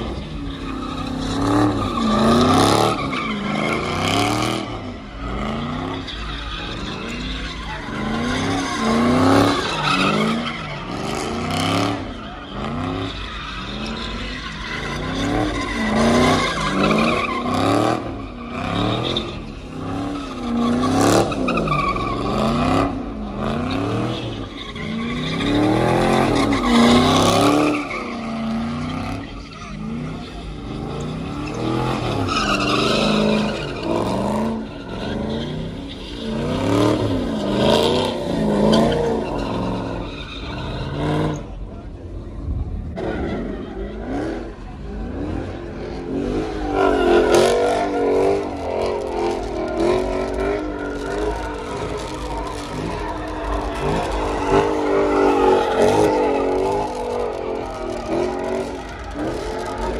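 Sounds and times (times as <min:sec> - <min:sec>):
car engine revving: 0:00.0 - 0:59.9
tyres skidding and squealing: 0:00.0 - 0:59.9.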